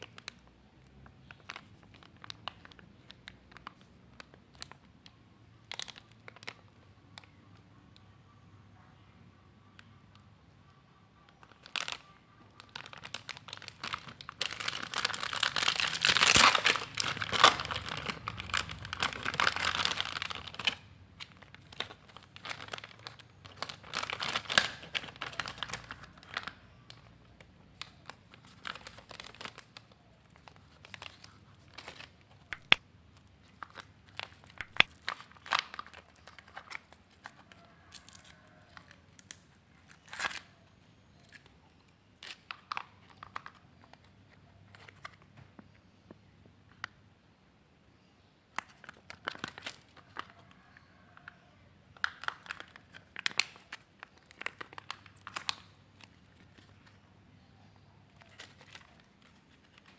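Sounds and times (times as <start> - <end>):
packaging crinkling and tearing: 0.0 - 7.4, 11.2 - 45.3, 48.5 - 51.4, 52.0 - 57.0, 58.1 - 59.9.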